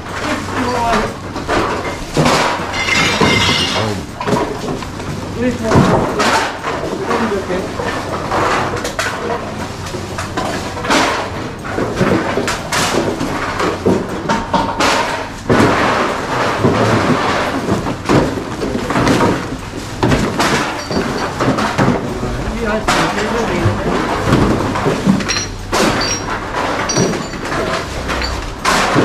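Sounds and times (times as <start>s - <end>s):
bottles and cans clattering: 0.0s - 29.0s.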